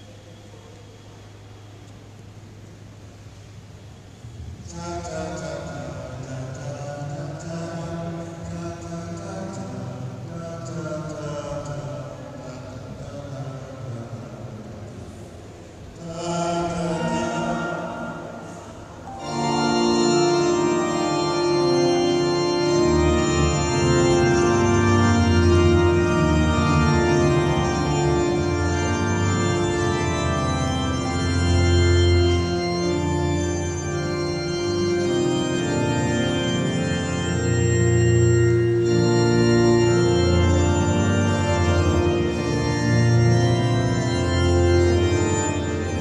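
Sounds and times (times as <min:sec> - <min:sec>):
organ playing held chords: 0:03.7 - 0:46.0.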